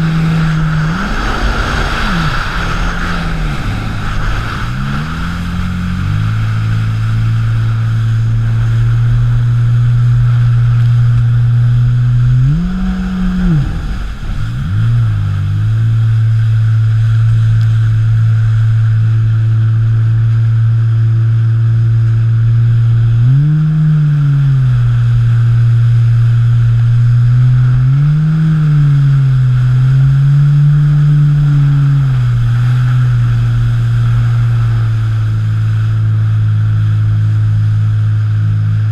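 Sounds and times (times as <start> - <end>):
jet ski engine running hard: 0.0 - 38.9
rushing water and wind: 0.0 - 38.9.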